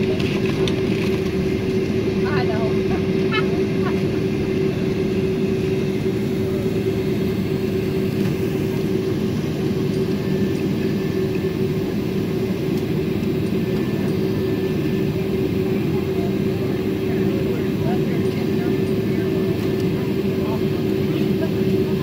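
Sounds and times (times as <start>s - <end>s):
aircraft cabin low rumble: 0.0s - 22.0s
constant hum-like tone: 0.0s - 22.0s.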